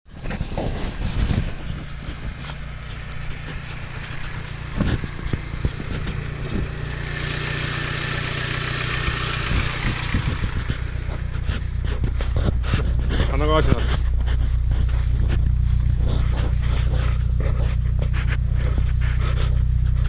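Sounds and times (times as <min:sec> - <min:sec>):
car engine idling: 0:00.4 - 0:20.0.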